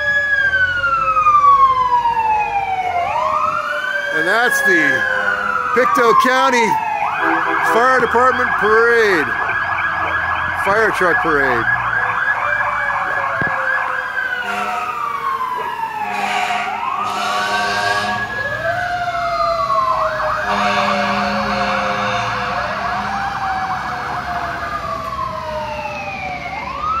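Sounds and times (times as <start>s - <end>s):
fire truck sirens wailing: 0.0s - 27.0s
siren warbling yelp: 0.0s - 27.0s.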